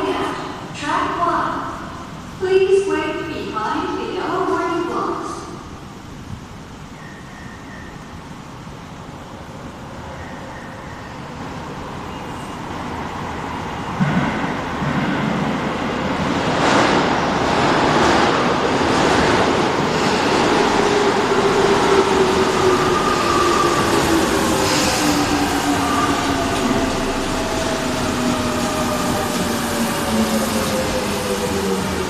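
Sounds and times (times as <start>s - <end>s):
electric train rumble: 0.0s - 32.0s.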